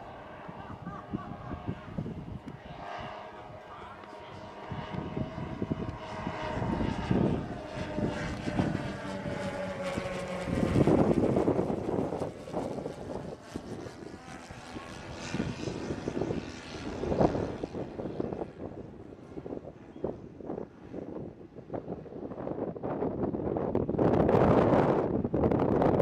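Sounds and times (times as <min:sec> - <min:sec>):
model airplane propeller drone: 0:00.0 - 0:26.0
wind buffeting microphone: 0:00.0 - 0:26.0.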